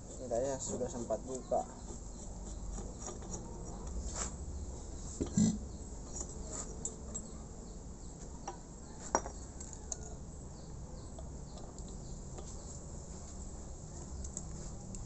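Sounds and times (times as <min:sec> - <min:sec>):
faint chirping: 0:00.0 - 0:15.0.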